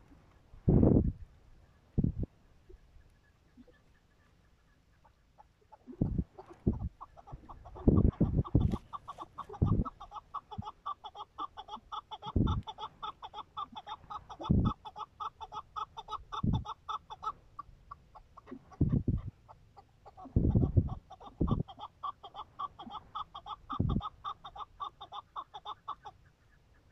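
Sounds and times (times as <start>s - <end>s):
partridge clucking calls: 1.6s - 26.9s.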